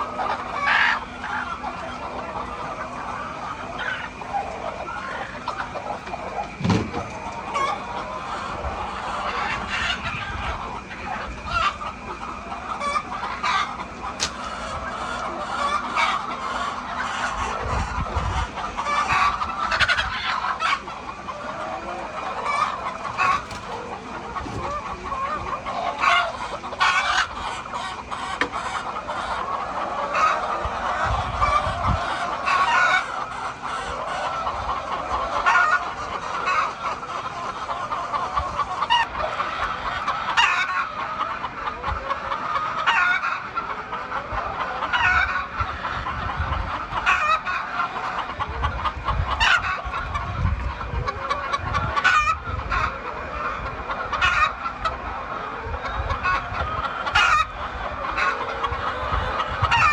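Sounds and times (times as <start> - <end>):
hens clucking and squawking: 0.0 - 59.9.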